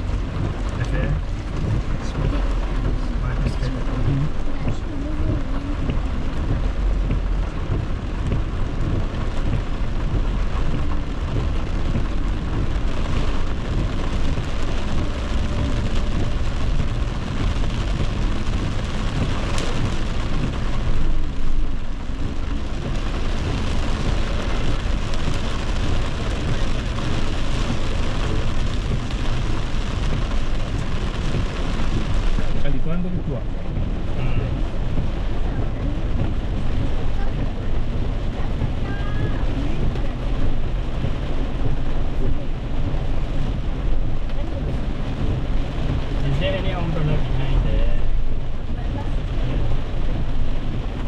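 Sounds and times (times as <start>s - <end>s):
car rumbling on wet road: 0.0s - 51.0s
heavy rain on car roof: 0.0s - 51.0s.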